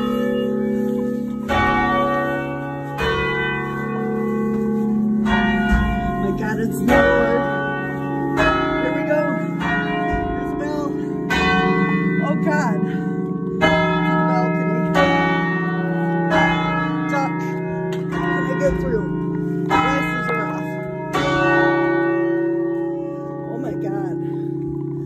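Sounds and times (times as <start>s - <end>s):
church bells playing a tune: 0.0s - 25.0s.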